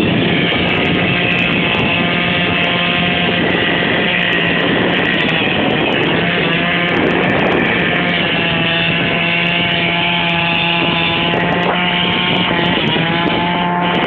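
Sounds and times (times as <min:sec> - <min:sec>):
engine running roughly: 0:00.0 - 0:14.0
wind on microphone: 0:00.0 - 0:14.0.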